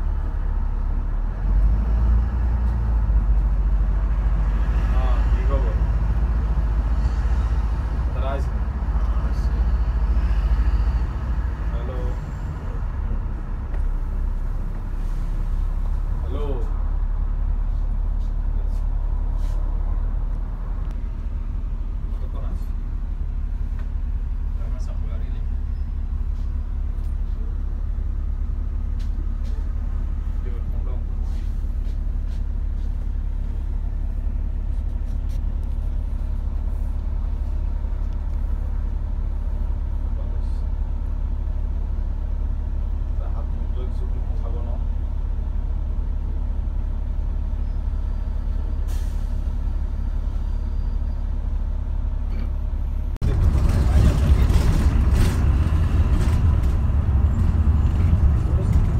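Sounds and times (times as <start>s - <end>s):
large vehicle engine rumble: 0.0s - 58.9s
road noise: 0.0s - 58.9s.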